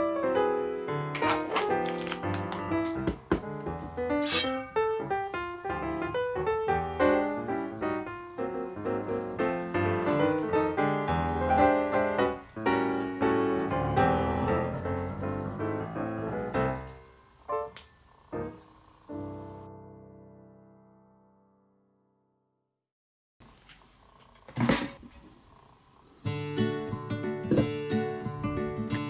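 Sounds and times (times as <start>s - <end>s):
lively piano music: 0.0s - 21.5s, 26.3s - 29.0s.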